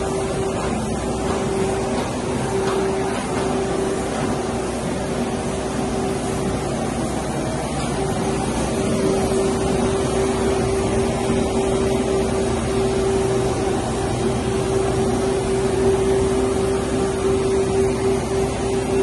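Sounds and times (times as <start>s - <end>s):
printing press machine drone: 0.0s - 19.0s.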